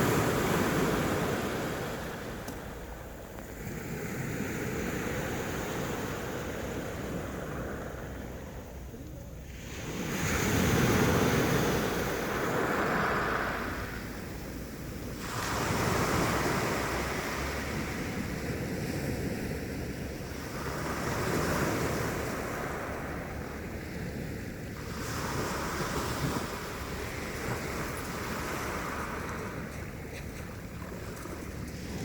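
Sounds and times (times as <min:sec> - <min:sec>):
sea waves washing onto shore: 0:00.0 - 0:08.8, 0:09.4 - 0:32.0.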